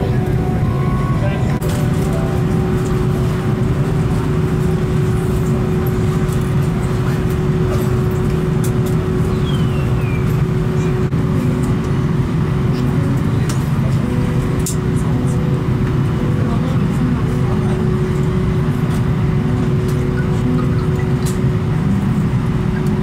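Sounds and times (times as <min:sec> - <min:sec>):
airliner cabin rumble: 0:00.0 - 0:23.0
steady hum: 0:00.0 - 0:23.0.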